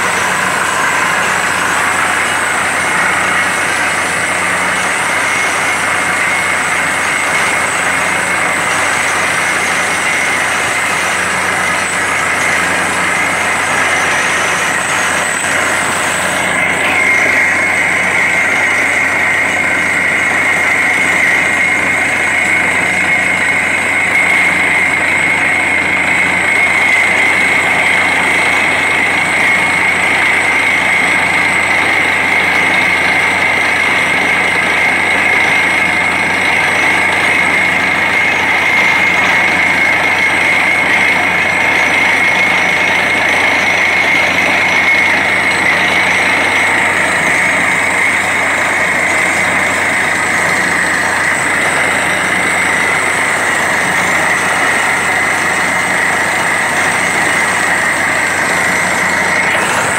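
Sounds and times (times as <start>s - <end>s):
drilling rig engine: 0.0s - 59.9s
steady high whine: 0.0s - 59.9s.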